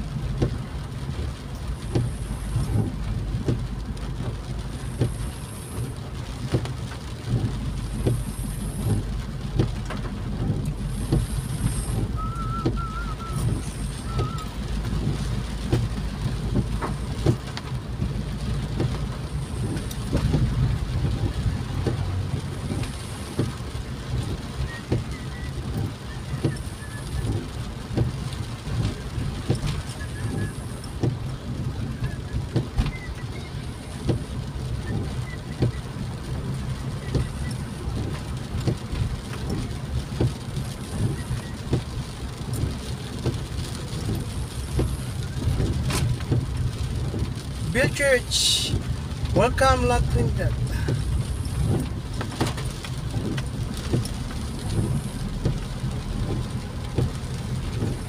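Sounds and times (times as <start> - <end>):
engine and tyres on wet road: 0.0 - 58.0
rain tapping on car roof: 0.0 - 58.0.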